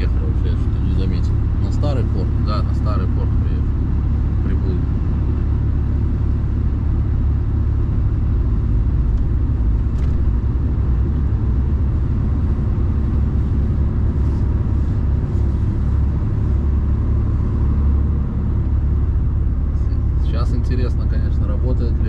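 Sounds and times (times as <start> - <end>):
road noise: 0.0 - 22.0
truck diesel engine rumble: 0.0 - 22.0.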